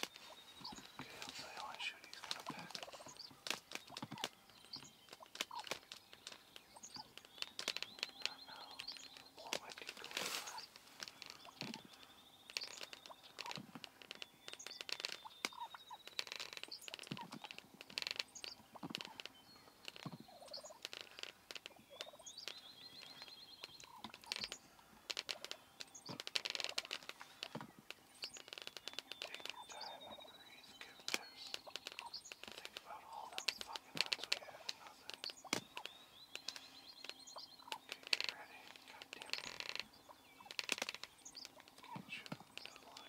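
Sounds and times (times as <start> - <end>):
songbirds trilling: 0.0 - 43.0.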